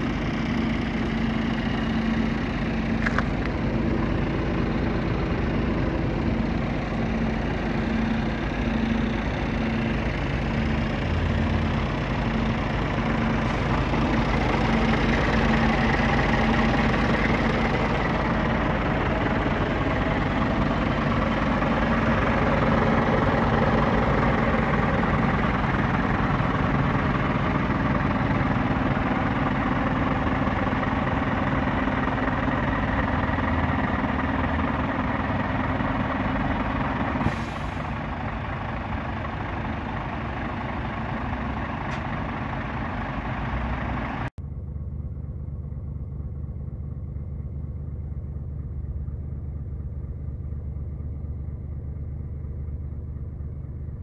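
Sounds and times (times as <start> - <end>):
truck diesel engine idling: 0.0 - 54.0.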